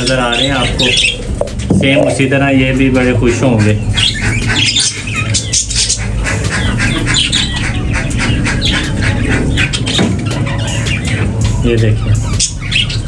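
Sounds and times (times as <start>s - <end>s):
budgerigars chattering and squawking: 0.0s - 13.0s.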